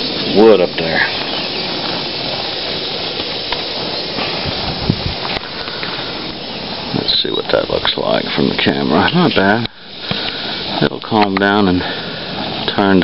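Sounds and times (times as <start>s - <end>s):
burning coals hissing: 0.0s - 13.0s
fire popping: 0.0s - 13.0s.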